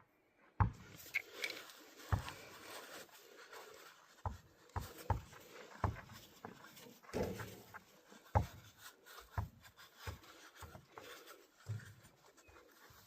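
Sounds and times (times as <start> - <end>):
paper towel rubbing and rustling: 1.3 - 13.0.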